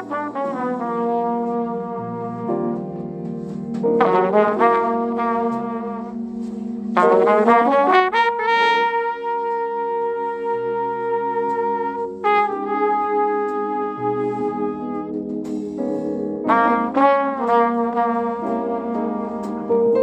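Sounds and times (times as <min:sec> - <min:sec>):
jazz trumpet melody: 0:00.0 - 0:20.0
low musical accompaniment: 0:00.0 - 0:20.0.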